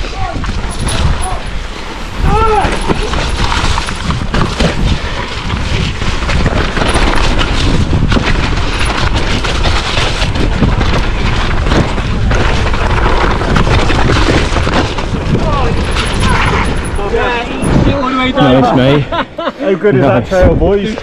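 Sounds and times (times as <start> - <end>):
bike tyres rumbling on dirt: 0.0 - 19.0
wind buffeting microphone: 0.0 - 19.2
bike knocks and rattles: 0.2 - 1.5, 2.3 - 18.2.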